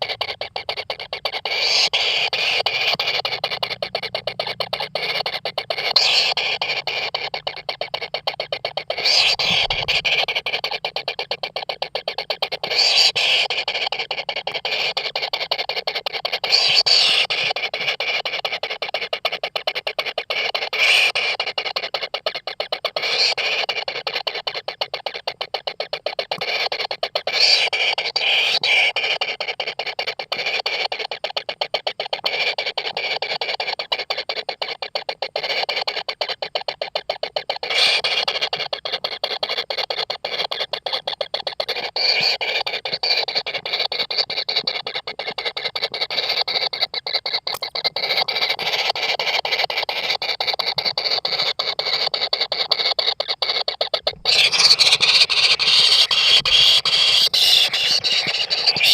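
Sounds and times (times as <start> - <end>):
nestlings rasping begging churr: 0.0 - 58.9.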